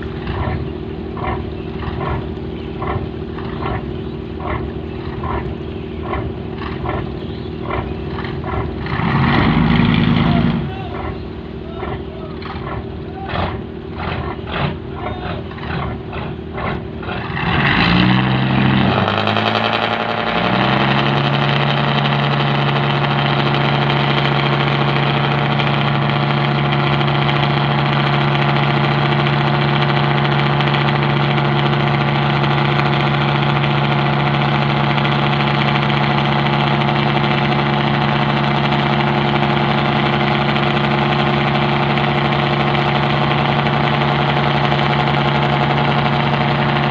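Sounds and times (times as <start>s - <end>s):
boat diesel engine running: 0.0s - 46.9s.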